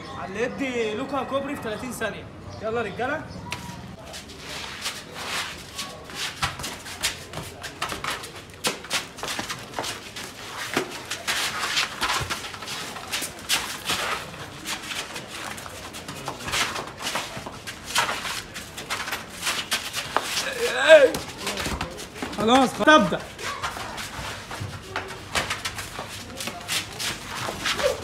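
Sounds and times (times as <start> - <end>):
sandals slapping on paving stones: 3.5 - 28.0.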